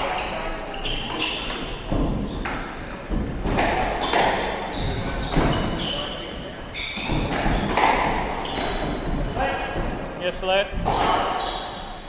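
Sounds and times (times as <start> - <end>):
shoes squeaking on wooden floor: 0.0 - 12.0
squash ball hitting rackets and walls: 0.9 - 12.0.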